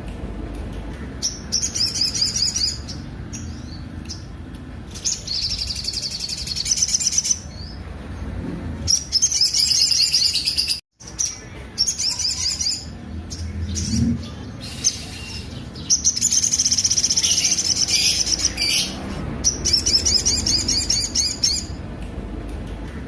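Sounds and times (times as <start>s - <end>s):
bird singing rapid high trills: 1.2s - 7.8s, 8.9s - 21.8s.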